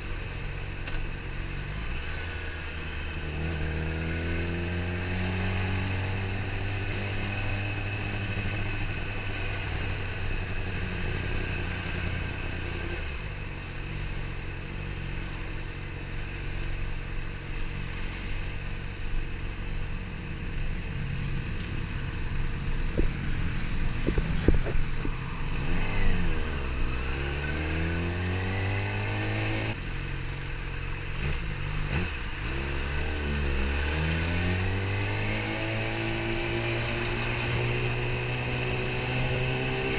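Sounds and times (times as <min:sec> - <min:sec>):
motorcycle engine revving: 0:00.0 - 0:19.5, 0:20.2 - 0:39.9.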